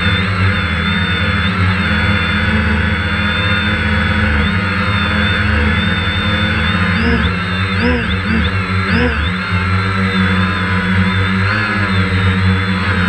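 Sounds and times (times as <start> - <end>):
drone motors buzzing: 0.0 - 13.0.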